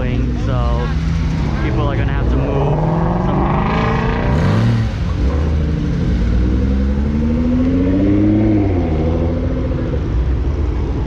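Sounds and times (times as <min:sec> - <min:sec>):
engine revving: 0:00.0 - 0:10.5
car engines rumbling: 0:00.0 - 0:11.0.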